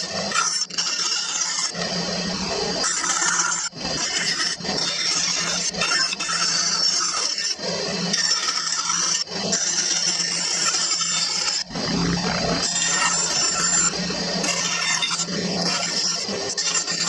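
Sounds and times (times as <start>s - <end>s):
scroll saw cutting wood: 0.0s - 17.0s.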